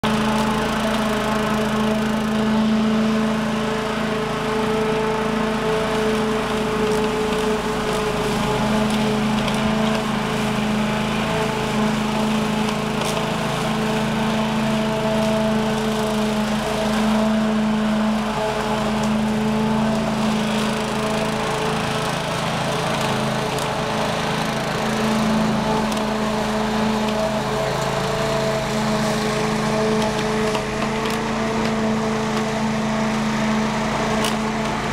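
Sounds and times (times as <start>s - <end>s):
lawn mower motor running: 0.0s - 34.9s.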